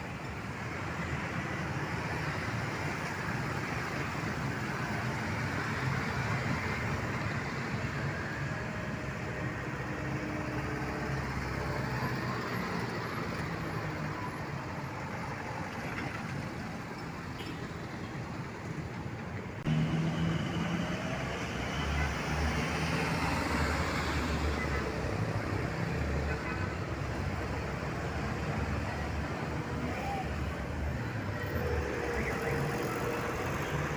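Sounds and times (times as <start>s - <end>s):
trucks and buses passing: 0.0s - 33.9s.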